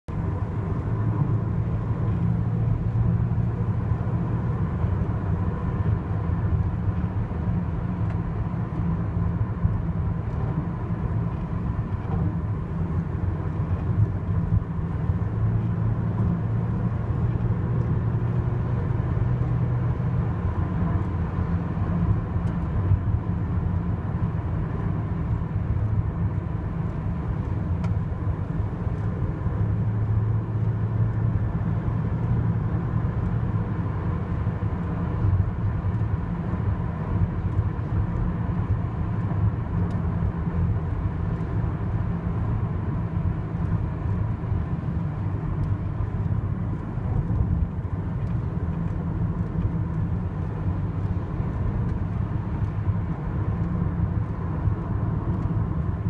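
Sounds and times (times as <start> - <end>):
car cabin engine and road rumble: 0.1 - 56.0.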